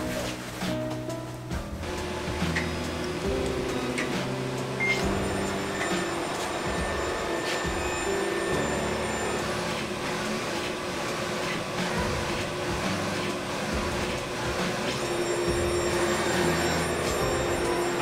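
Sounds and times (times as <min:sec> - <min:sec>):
printer carriage motor running: 0:01.6 - 0:18.0
steady printer hum: 0:01.6 - 0:18.0.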